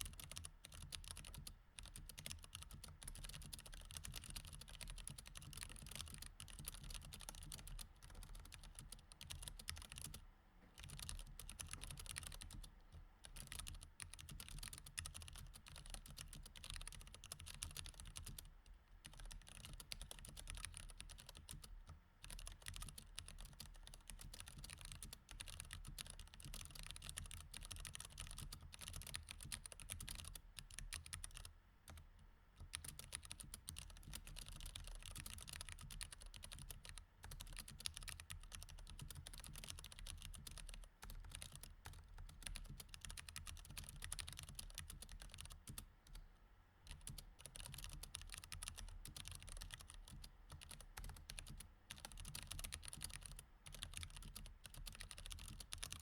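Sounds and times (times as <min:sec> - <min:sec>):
mechanical keyboard typing: 0:00.0 - 0:10.2, 0:10.8 - 0:32.0, 0:32.6 - 0:46.2, 0:46.9 - 0:56.0.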